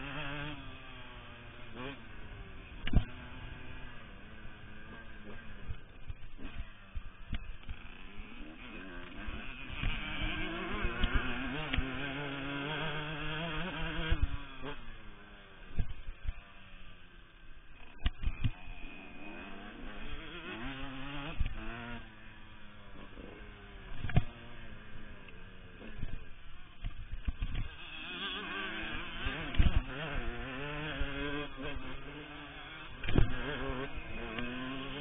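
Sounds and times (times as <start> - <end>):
two-stroke dirt bike revving: 0.0 - 35.0.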